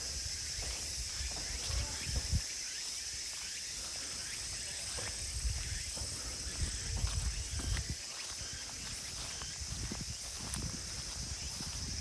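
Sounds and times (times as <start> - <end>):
crickets chirping: 0.0 - 12.0
footsteps on a path: 0.0 - 12.0.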